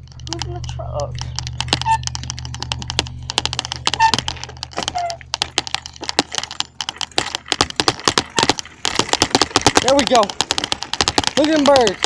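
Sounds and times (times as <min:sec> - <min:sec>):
bicycle rattling on dirt road: 0:00.0 - 0:12.0.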